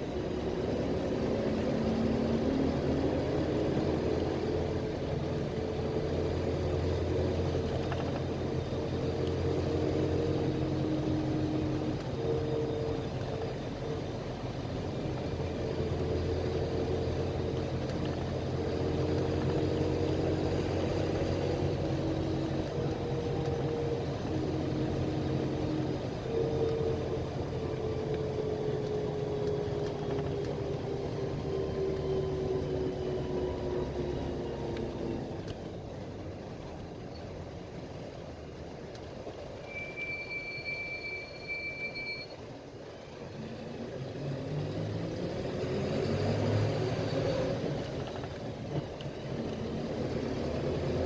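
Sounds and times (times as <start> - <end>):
bus engine hum: 0.0 - 51.0
drivetrain whine: 0.0 - 51.0.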